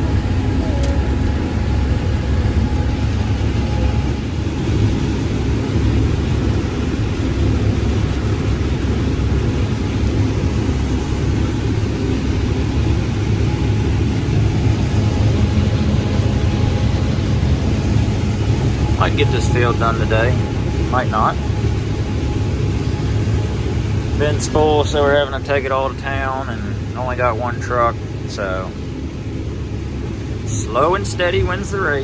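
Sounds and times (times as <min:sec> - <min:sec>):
combine harvester drone: 0:00.0 - 0:32.0.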